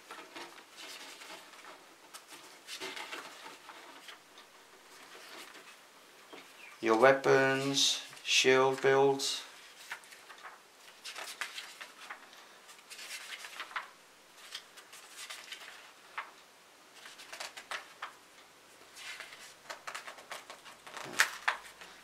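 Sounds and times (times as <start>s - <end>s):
paper pages flipping: 0.0s - 6.5s, 8.0s - 16.4s, 17.0s - 18.2s, 18.9s - 22.0s.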